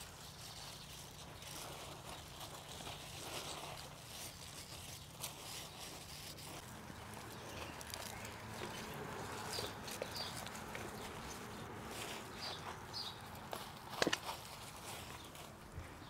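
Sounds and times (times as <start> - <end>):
hands digging in soil: 0.0 - 15.8
rustling of leafy plants: 0.0 - 16.0.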